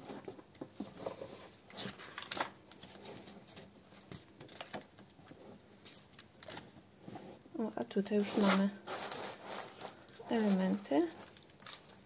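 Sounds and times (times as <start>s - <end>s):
paper rustling and crackling: 0.0s - 6.8s, 8.1s - 12.0s.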